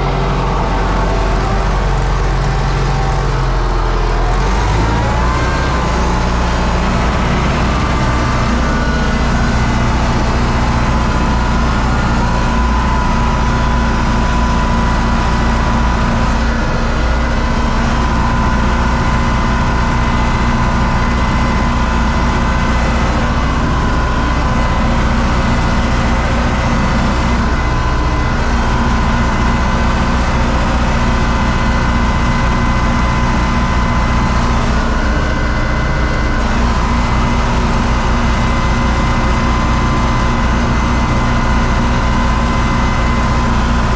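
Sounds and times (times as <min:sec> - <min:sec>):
steady high whine: 0:00.0 - 0:43.9
tractor diesel engine running: 0:00.0 - 0:43.9.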